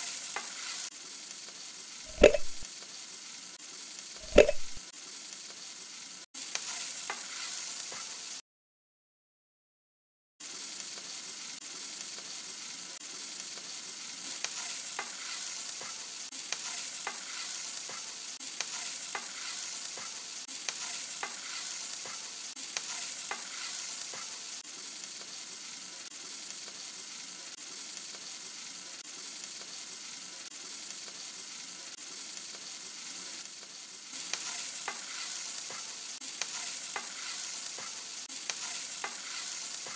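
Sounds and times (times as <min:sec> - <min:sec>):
food sizzling in a pan: 0:00.0 - 0:08.4, 0:10.4 - 0:39.9.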